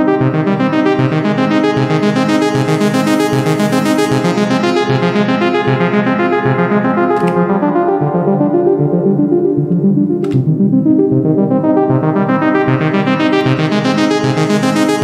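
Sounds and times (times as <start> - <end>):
synthesizer fast arpeggio: 0.0 - 15.0.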